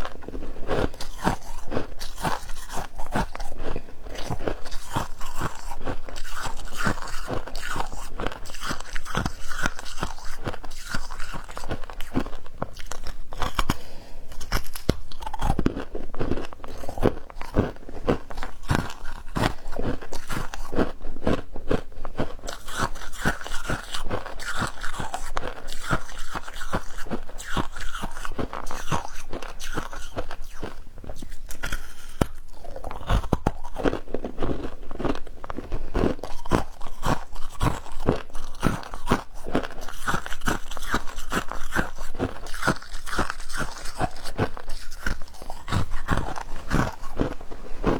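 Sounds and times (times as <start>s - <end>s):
person crunching ice: 0.1s - 21.0s, 22.5s - 47.9s.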